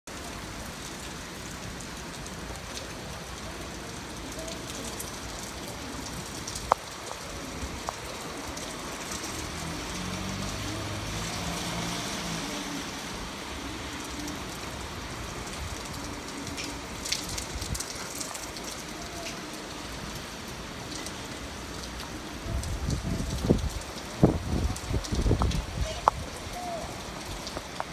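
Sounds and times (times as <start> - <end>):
heavy rain on pavement: 0.0 - 27.9.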